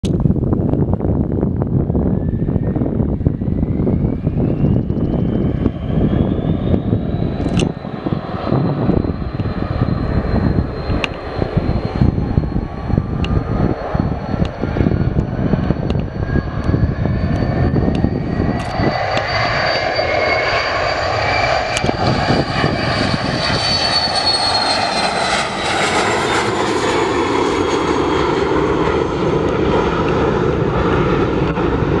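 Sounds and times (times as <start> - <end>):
jet engines whining and rumbling: 0.0 - 32.0.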